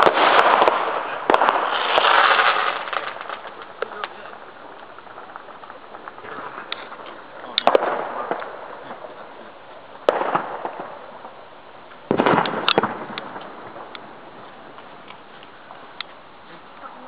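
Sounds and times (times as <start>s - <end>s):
fireworks cracking: 0.0s - 17.0s.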